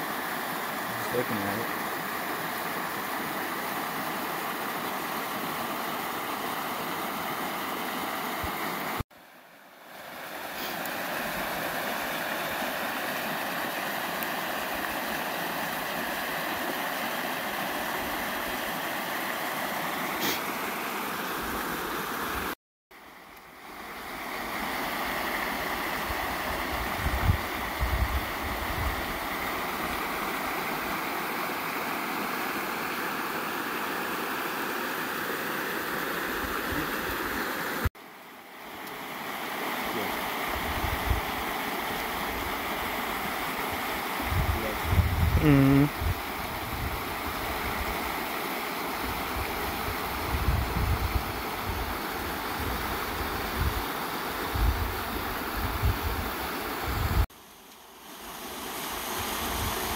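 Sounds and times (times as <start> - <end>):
creek flowing over rocks: 0.0 - 44.8, 46.2 - 50.5, 51.1 - 56.8.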